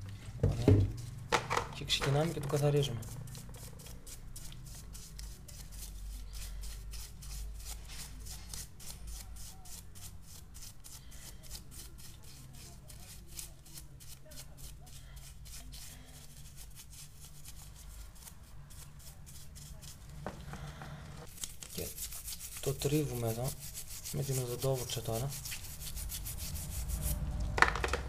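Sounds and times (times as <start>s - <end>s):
paintbrush scrubbing metal: 1.8s - 20.0s, 21.2s - 27.2s.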